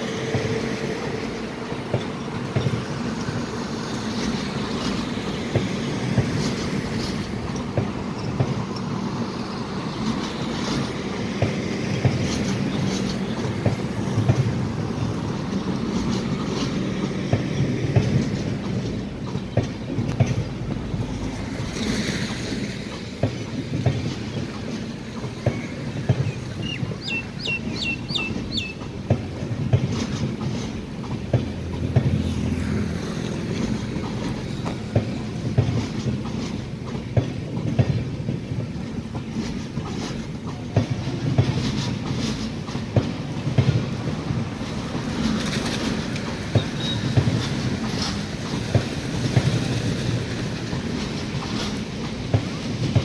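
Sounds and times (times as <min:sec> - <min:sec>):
train low rumble: 0:00.0 - 0:53.0
wheels clattering over rail joints: 0:00.0 - 0:53.0.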